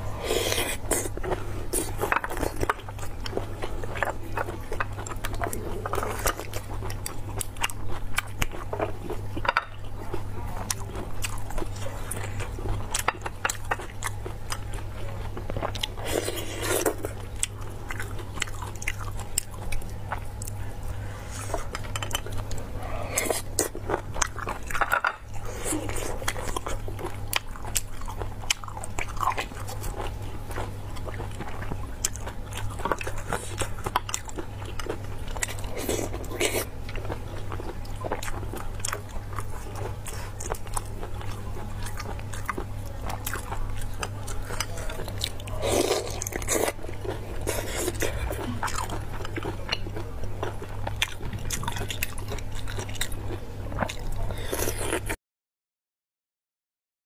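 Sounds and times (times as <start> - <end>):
steady low hum: 0.0 - 55.2
chewing with wet mouth clicks: 0.5 - 20.7, 21.6 - 55.2.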